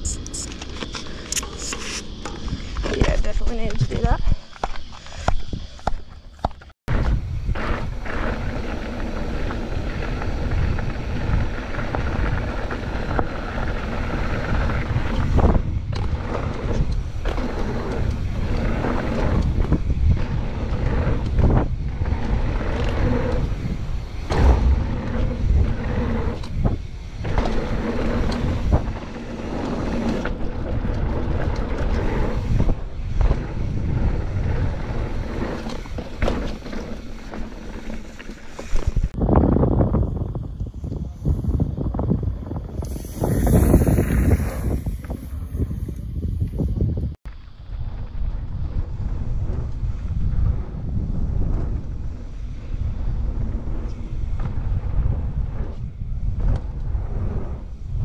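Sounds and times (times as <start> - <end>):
wind buffeting microphone: 0.0 - 6.1, 6.9 - 58.0
bike tyres rolling on gravel: 0.0 - 58.0.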